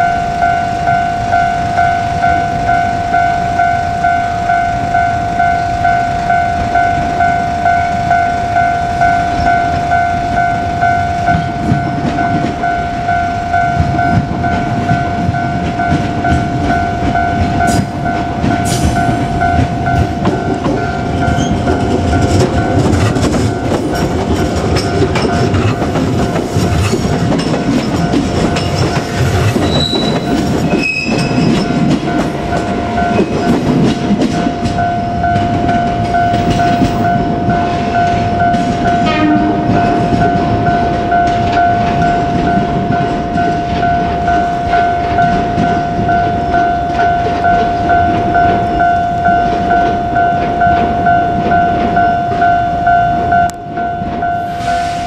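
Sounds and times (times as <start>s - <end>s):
level-crossing warning bell ringing: 0.0s - 55.0s
train wheels rumbling and clattering: 0.0s - 55.0s.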